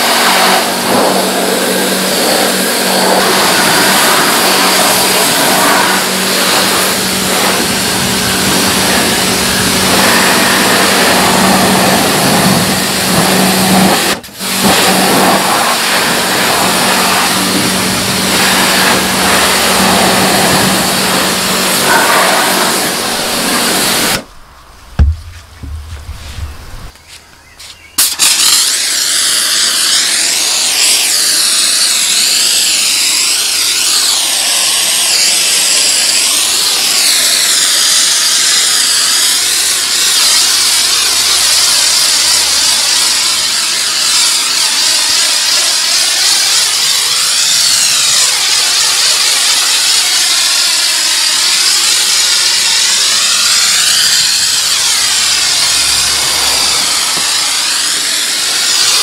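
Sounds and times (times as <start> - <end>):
pressure washer spraying water: 0.0 - 27.1, 27.7 - 59.0.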